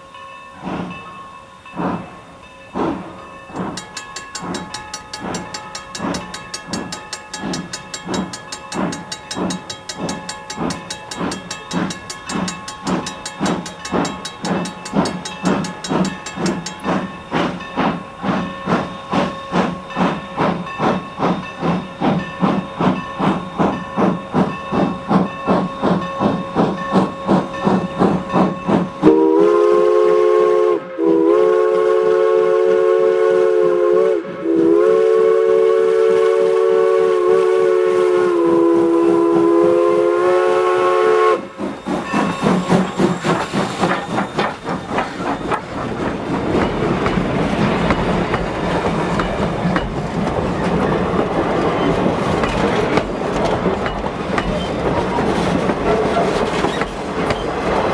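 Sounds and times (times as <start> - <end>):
three-chime steam whistle: 0.0 - 50.0
steam locomotive exhaust chuffs: 0.0 - 57.9.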